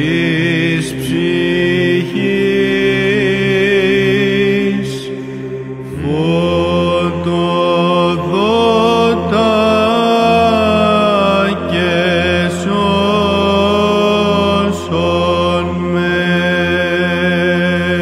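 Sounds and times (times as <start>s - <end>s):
held vocal drone: 0.0s - 18.0s
man singing chant: 0.0s - 18.0s.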